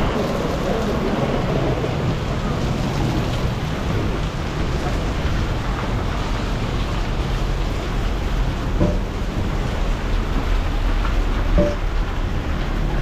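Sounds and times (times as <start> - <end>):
heavy rain: 0.0 - 13.0
low rumble: 0.0 - 13.0.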